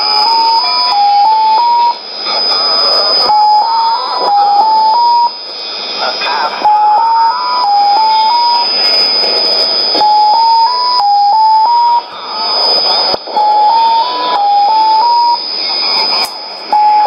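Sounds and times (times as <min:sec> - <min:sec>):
garbled warbling radio sound: 0:00.0 - 0:17.0
radio static: 0:00.0 - 0:17.0
steady high whistle: 0:00.0 - 0:17.0.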